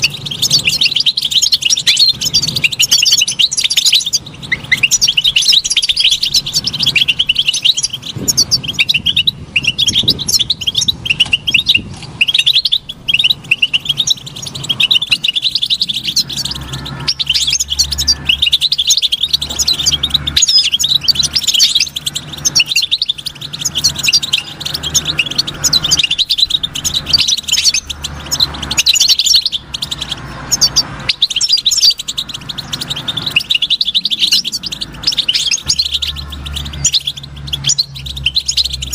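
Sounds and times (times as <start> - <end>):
bird twittering: 0.0 - 38.9.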